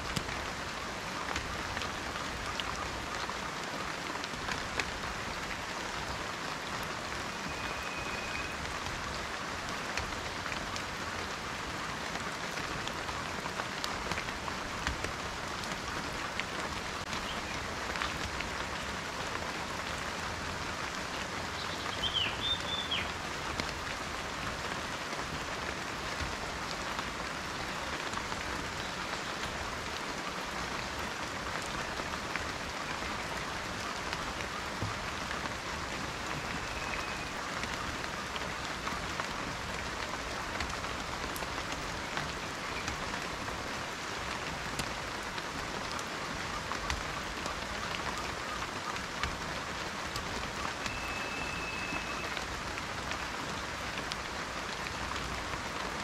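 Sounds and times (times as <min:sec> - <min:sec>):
rain on leaves: 0:00.0 - 0:56.0.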